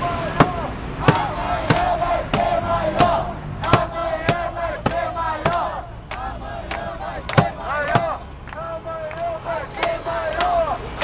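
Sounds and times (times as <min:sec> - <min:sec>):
crowd chanting: 0:00.0 - 0:11.0.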